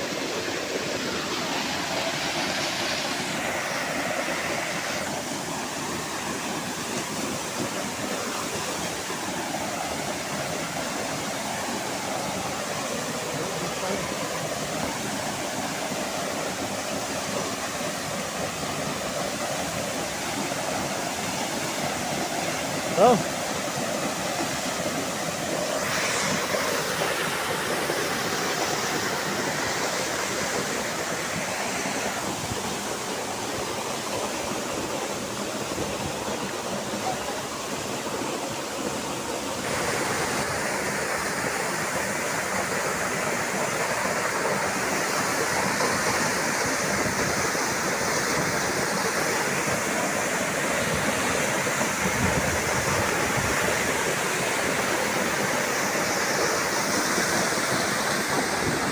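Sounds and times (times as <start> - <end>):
river water falling over rocks: 0.0 - 58.9.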